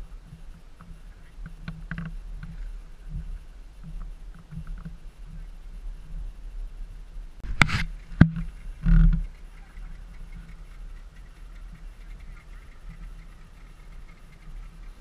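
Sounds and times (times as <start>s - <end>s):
outboard engines idling: 0.0s - 15.0s.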